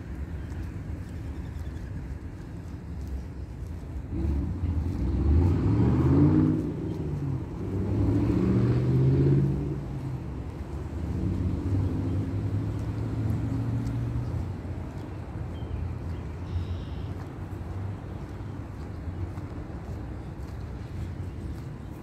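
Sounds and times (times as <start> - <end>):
engine running past: 0.0 - 22.0.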